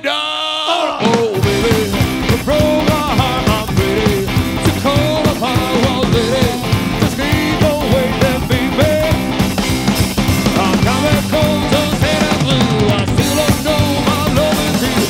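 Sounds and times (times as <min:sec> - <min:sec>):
drums: 0:00.7 - 0:15.0
upright double bass: 0:01.4 - 0:15.0.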